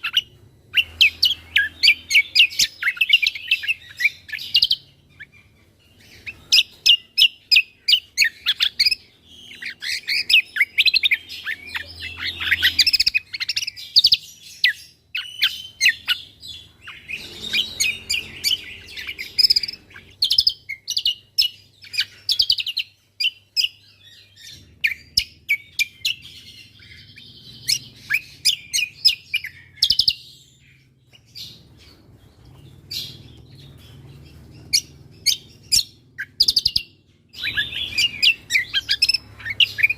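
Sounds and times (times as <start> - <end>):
songbird high chirps: 0.0 - 39.9.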